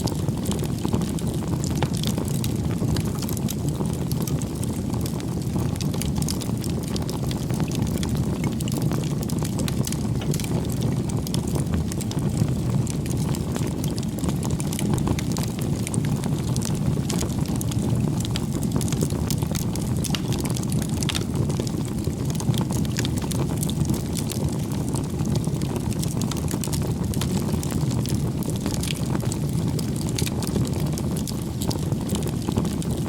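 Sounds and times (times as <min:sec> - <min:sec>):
burning wood crackling: 0:00.0 - 0:33.0
low rush of flames: 0:00.0 - 0:33.0.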